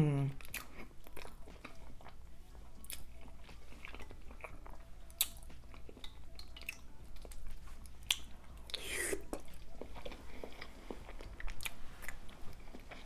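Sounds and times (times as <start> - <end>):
chewing food: 0.4 - 13.0.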